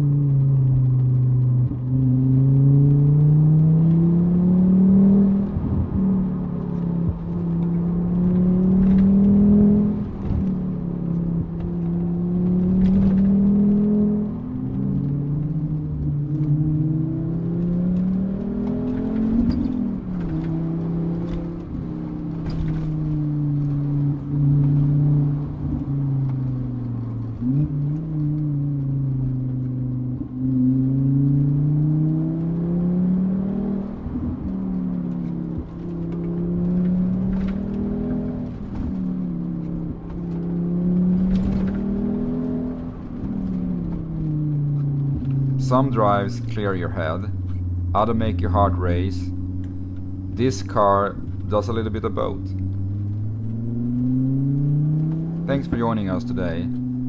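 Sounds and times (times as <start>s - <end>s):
turbocharged car engine revving: 0.8s - 57.0s.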